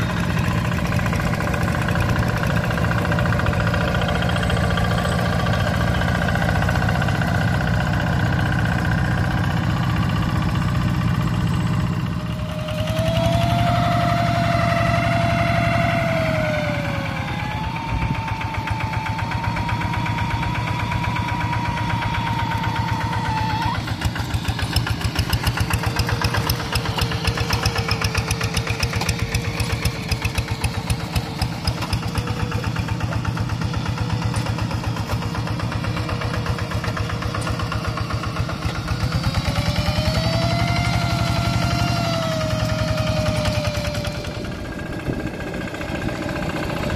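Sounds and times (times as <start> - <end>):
diesel engine chugging: 0.0 - 46.9.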